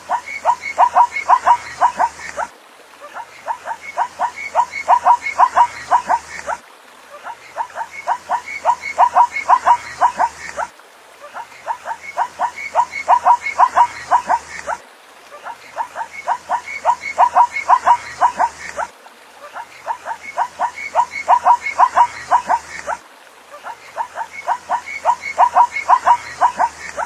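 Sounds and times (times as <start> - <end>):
zebra yelping barks: 0.0 - 6.6, 7.2 - 10.7, 11.3 - 14.8, 15.4 - 18.9, 19.5 - 23.0, 23.6 - 27.0.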